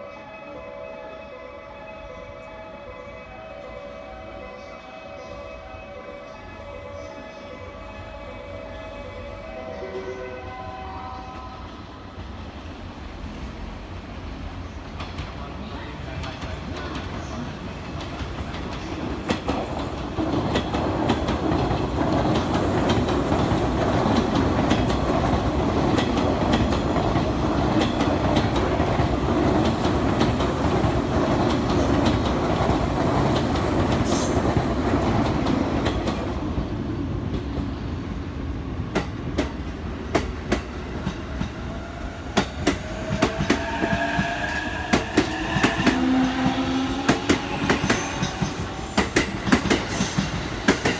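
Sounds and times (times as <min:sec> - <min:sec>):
train rumbling past: 0:01.7 - 0:50.9.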